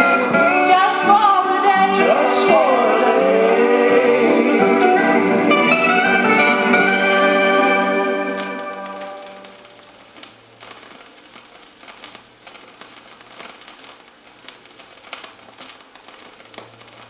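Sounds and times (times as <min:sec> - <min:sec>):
faint steady hum: 0:00.0 - 0:17.0
vinyl crackles and clicks: 0:00.0 - 0:17.0
vinyl record hiss: 0:00.0 - 0:17.0.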